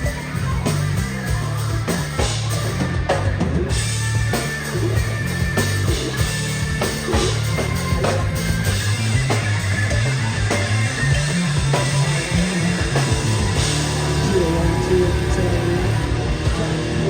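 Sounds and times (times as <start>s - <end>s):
amplified guitar: 0.0s - 17.0s
bass line: 0.0s - 17.0s
drum kit beat: 0.0s - 17.0s.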